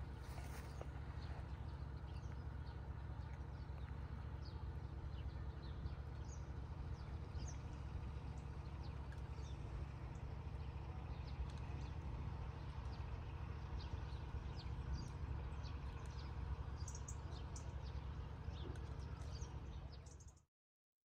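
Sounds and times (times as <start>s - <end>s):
small birds chirping: 0.0s - 20.5s.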